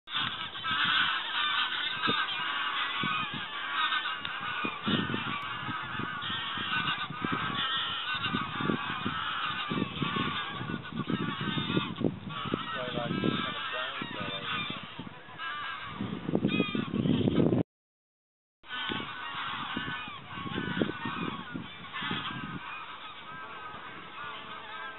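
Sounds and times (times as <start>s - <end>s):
geese honking: 0.1s - 17.5s, 18.7s - 24.9s.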